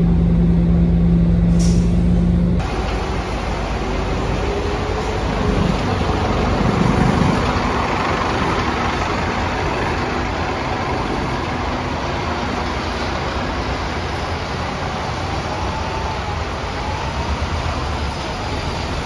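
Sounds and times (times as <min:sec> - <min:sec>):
bus diesel engine: 0:00.0 - 0:19.0.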